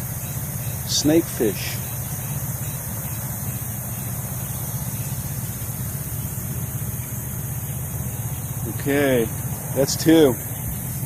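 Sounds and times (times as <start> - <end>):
engines idling: 0.0 - 11.0
high hiss: 0.0 - 11.0.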